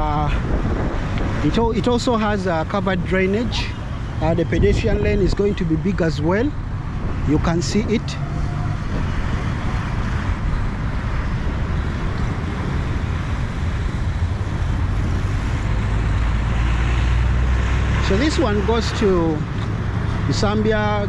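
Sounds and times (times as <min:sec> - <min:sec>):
heavy vehicle engine drone: 0:00.0 - 0:21.0
vehicles passing: 0:00.0 - 0:21.0.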